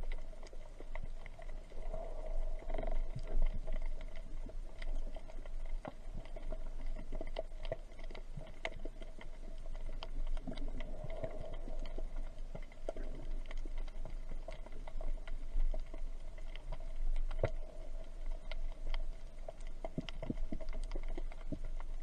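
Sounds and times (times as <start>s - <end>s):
low underwater rumble: 0.0s - 22.0s
underwater clicks and crackles: 0.0s - 22.0s.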